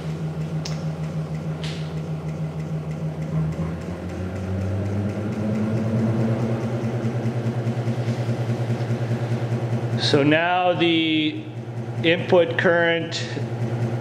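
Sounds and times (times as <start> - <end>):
stepper motor electric hum: 0.0 - 14.0.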